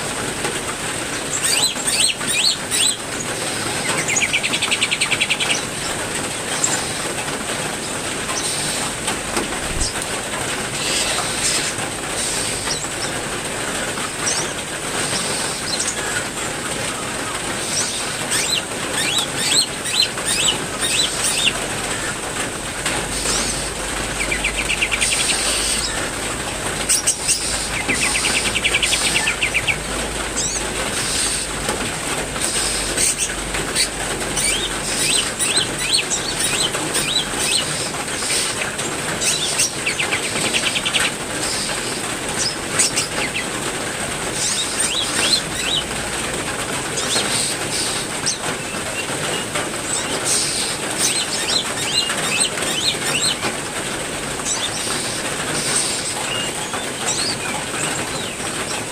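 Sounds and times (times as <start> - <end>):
heavy rain: 0.0 - 58.9
birds chirping and trilling: 0.7 - 31.8, 32.4 - 58.9.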